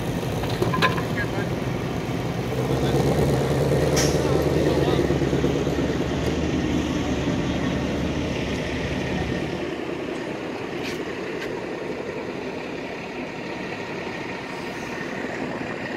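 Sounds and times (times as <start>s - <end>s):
car engine pulling away: 0.0s - 15.9s.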